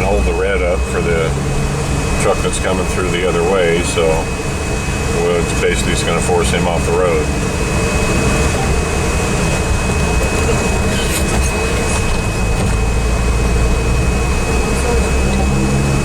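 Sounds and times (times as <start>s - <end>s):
air conditioning running: 0.0s - 15.3s
engine and road rumble: 0.0s - 16.0s.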